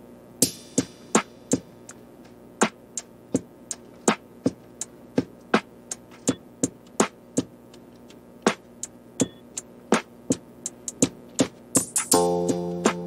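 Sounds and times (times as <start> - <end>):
drum-machine hits: 0.4 - 2.0, 2.6 - 7.8, 8.4 - 13.0.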